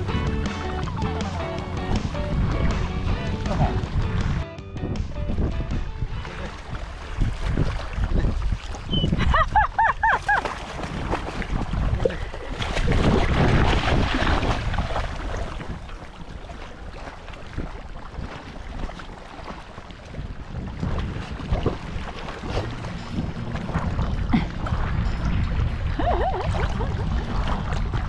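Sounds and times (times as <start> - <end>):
seawater splashing: 0.0 - 4.5, 6.0 - 28.0
wind buffeting microphone: 0.0 - 28.0.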